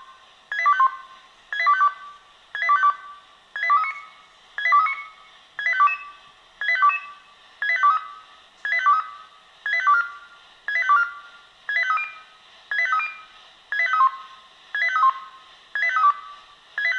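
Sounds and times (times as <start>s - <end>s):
pager electronic beeps: 0.5s - 16.9s.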